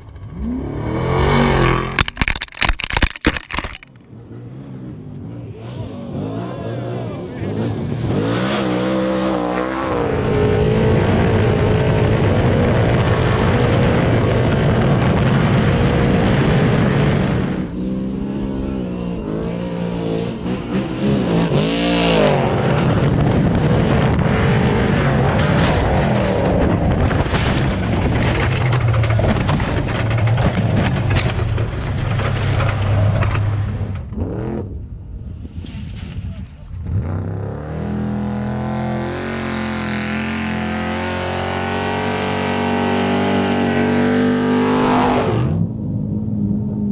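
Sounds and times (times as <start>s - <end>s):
truck engines revving: 0.0s - 35.4s, 36.6s - 46.9s.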